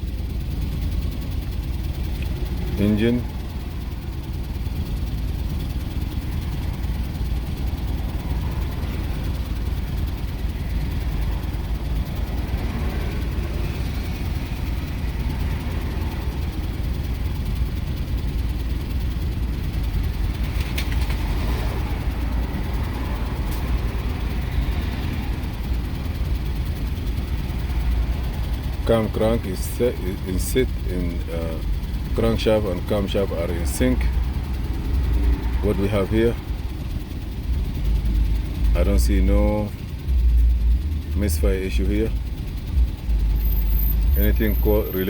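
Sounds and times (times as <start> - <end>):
engine idling with low rumble: 0.0 - 45.0.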